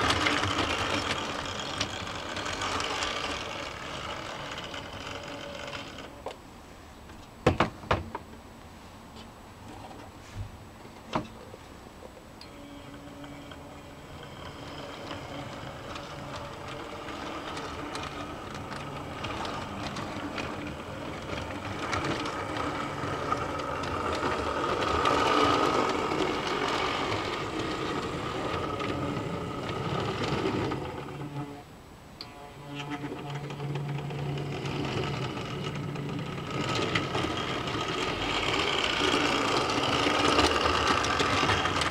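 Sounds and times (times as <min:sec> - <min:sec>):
small electric motor hum: 0:00.0 - 0:06.3, 0:12.4 - 0:41.9
model train wheels clicking: 0:00.0 - 0:06.4, 0:12.5 - 0:31.6, 0:32.2 - 0:41.9.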